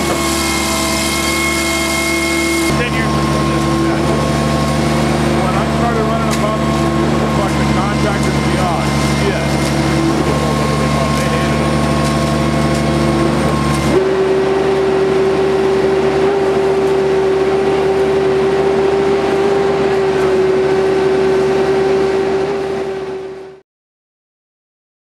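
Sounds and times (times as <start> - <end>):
concrete pump running: 0.0 - 23.6
strong steady machine whine: 0.0 - 23.6.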